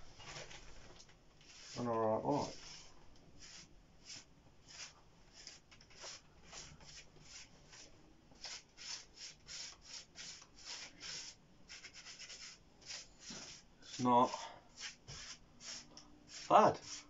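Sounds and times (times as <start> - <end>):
paintbrush bristle swishes: 1.4 - 17.0.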